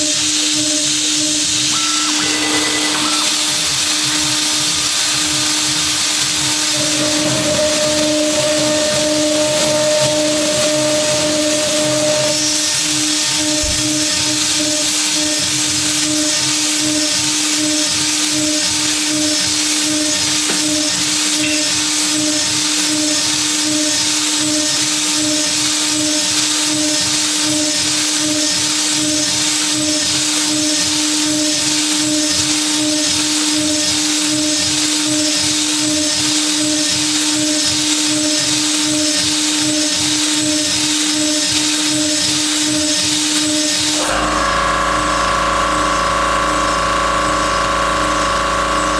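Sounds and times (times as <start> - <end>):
router spindle whining: 0.0 - 48.9.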